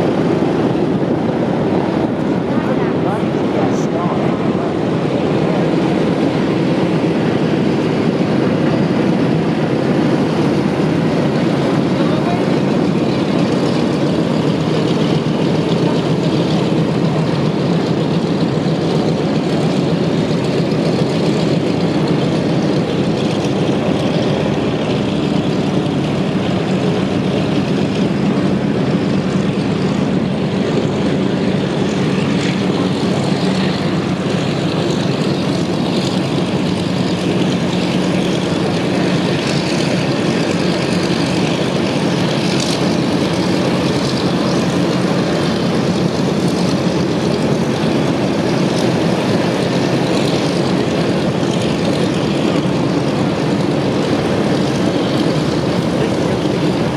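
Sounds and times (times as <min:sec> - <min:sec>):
propeller aircraft engines droning: 0:00.0 - 0:56.9.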